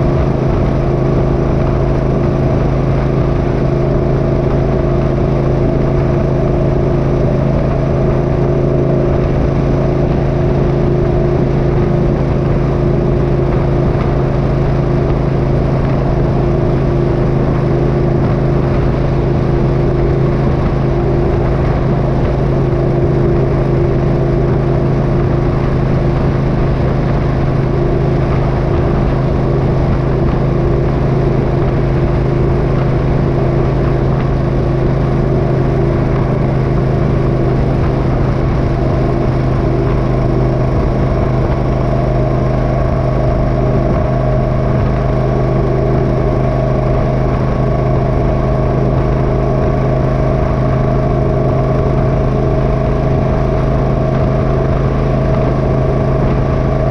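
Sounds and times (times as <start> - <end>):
motorcycle engine running: 0.0 - 56.9
road noise: 0.0 - 56.9.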